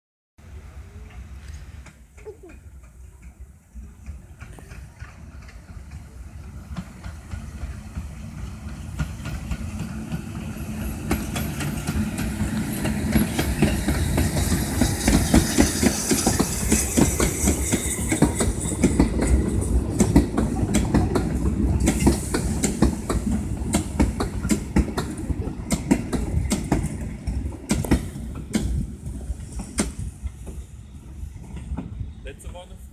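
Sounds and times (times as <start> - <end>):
steam locomotive rumble: 0.4 - 32.9
train wheels clattering on rails: 1.0 - 32.0
steam hissing: 3.7 - 31.6.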